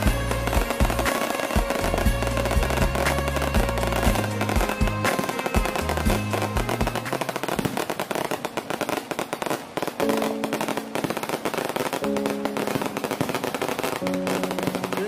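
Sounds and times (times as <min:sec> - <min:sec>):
background music: 0:00.0 - 0:08.4, 0:09.9 - 0:15.0
firecrackers crackling: 0:00.0 - 0:15.0.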